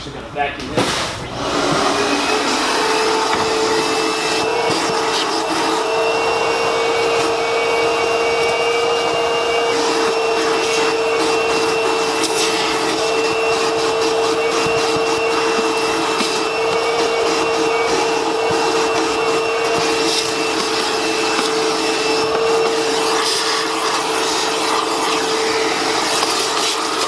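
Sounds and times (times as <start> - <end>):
vacuum cleaner running: 0.4 - 27.0.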